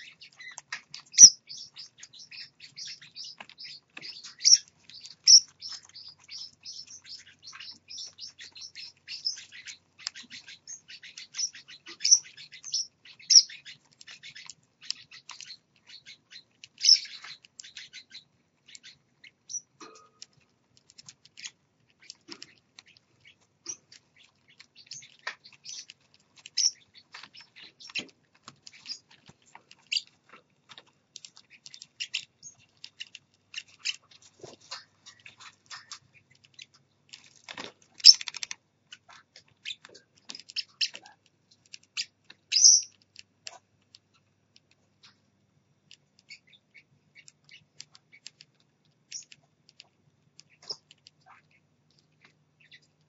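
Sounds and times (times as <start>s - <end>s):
small parrots chirping: 0.0s - 53.0s.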